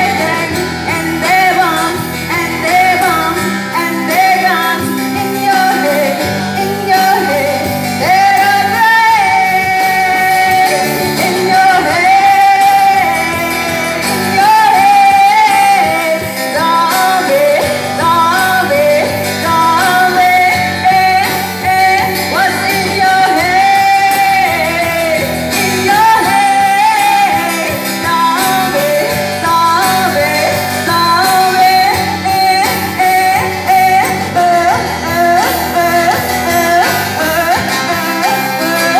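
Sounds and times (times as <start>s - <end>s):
acoustic guitar accompaniment: 0.0s - 38.9s
woman singing powerfully: 0.0s - 38.9s.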